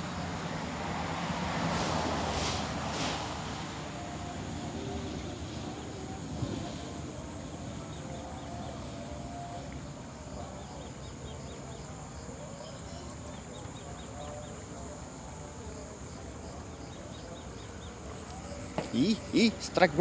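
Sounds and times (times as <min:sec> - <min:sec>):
insects chirping: 0:00.0 - 0:20.0
steady background hiss: 0:00.0 - 0:20.0.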